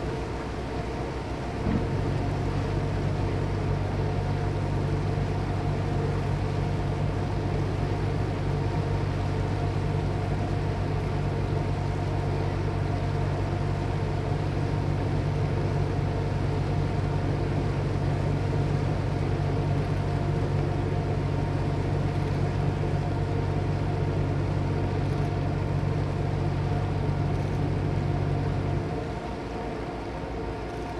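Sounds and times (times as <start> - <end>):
ship engine humming: 0.0 - 30.9.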